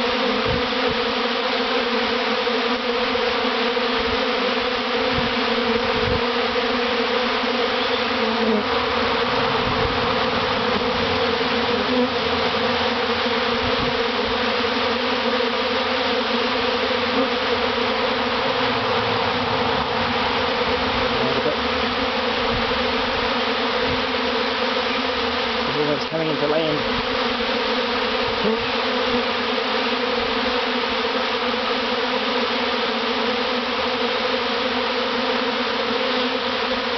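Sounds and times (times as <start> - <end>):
bee swarm buzzing: 0.0 - 36.9.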